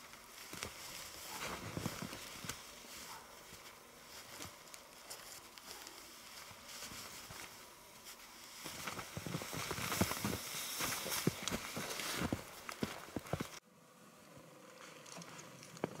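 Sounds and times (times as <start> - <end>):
crunching in snow: 0.0 - 13.6.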